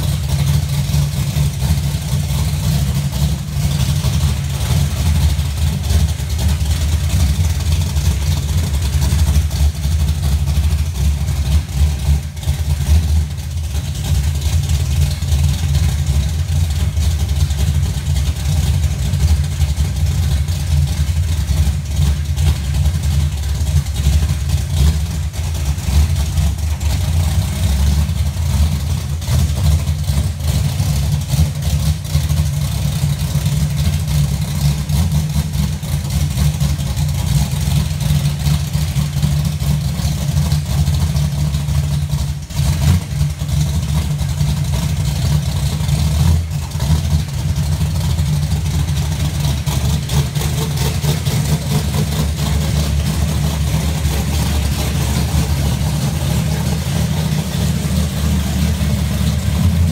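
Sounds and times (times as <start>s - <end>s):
car engine idling loudly: 0.0s - 59.9s.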